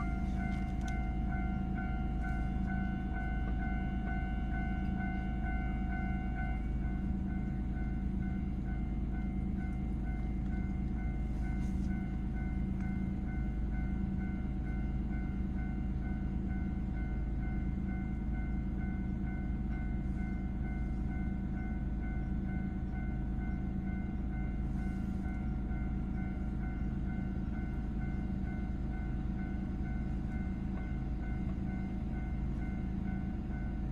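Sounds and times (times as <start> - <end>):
train passing rumble: 0.0 - 33.9.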